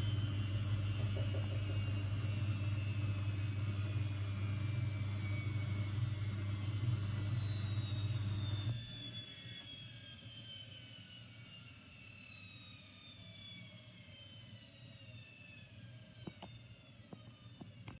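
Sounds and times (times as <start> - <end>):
washing machine motor whine: 0.0 - 18.0.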